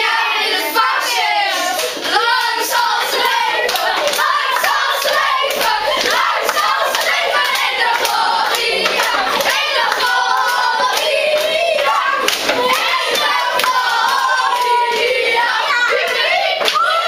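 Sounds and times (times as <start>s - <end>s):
children singing: 0.0s - 17.0s
hands clapping: 1.8s - 17.0s.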